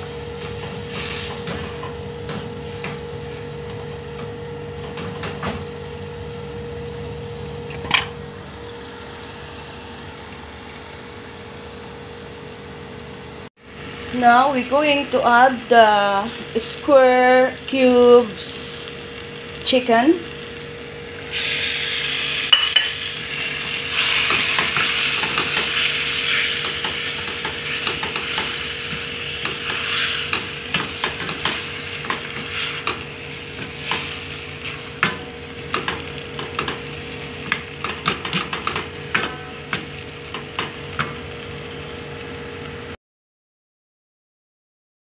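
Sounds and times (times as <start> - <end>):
chicken sizzling in a pot: 0.0 - 43.0
steady hum: 0.0 - 43.0.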